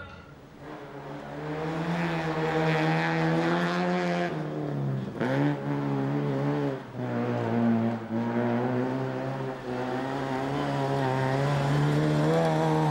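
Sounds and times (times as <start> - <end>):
rally car engine accelerating: 0.6 - 12.9.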